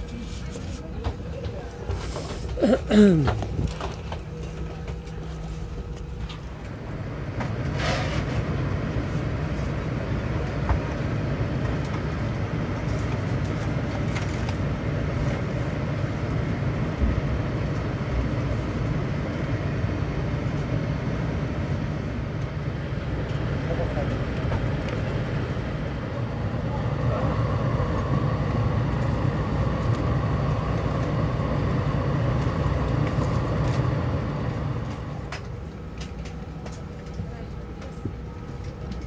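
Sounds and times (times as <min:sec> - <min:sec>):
aircraft cabin hum: 0:00.0 - 0:39.0.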